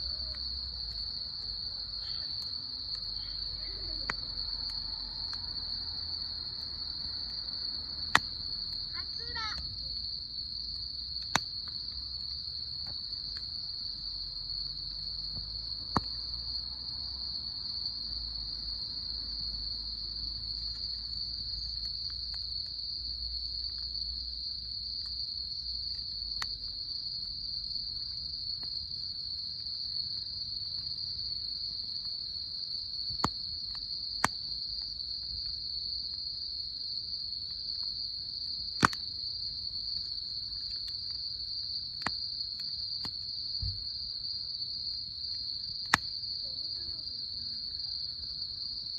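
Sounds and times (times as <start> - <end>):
campfire popping: 0.0 - 16.8, 18.5 - 36.5, 37.1 - 47.0
insects chirring: 0.0 - 48.9.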